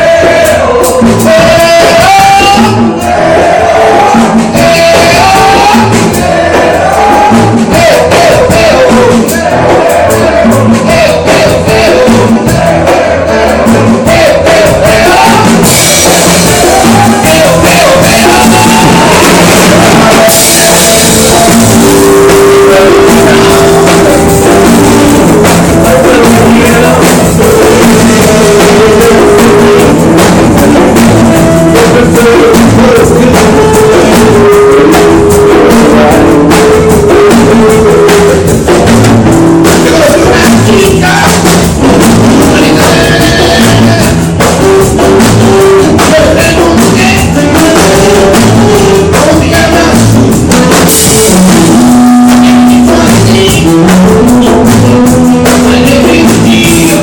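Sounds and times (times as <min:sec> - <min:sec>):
loud rock music with singing: 0:00.0 - 0:57.0.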